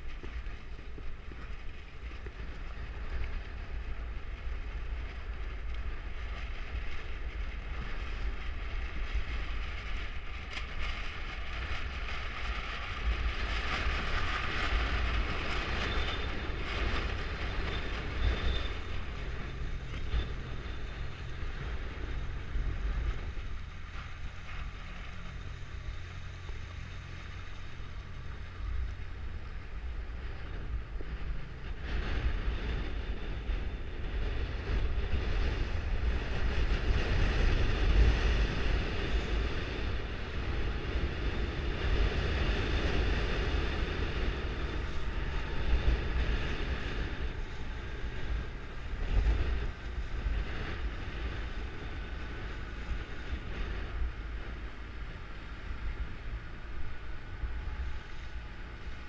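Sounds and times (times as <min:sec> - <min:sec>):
wind buffeting the microphone: 0:00.0 - 0:59.0.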